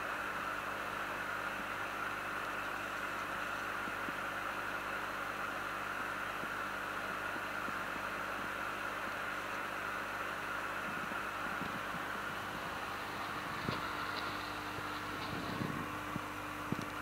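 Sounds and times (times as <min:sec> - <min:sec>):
aquarium air pump hissing: 0:00.0 - 0:17.0.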